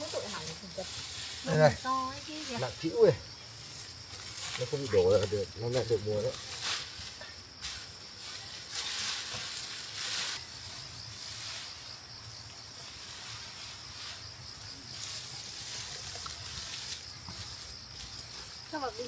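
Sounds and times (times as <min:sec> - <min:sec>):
rustling rice stalks: 0:00.0 - 0:19.0.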